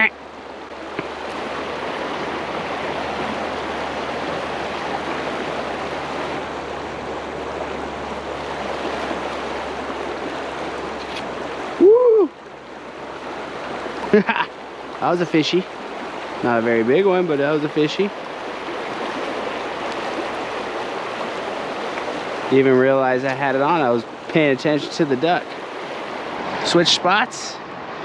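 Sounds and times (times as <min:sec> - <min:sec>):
river current rushing: 0:00.0 - 0:28.0.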